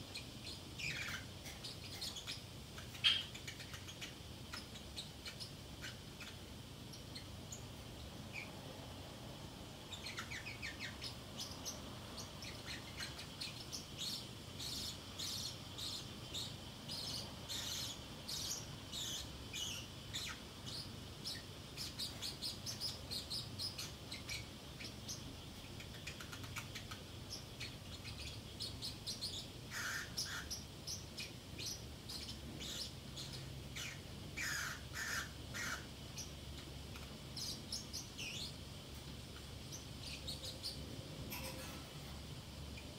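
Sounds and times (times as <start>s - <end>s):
parrot chirping: 0.0s - 8.6s, 9.8s - 41.8s.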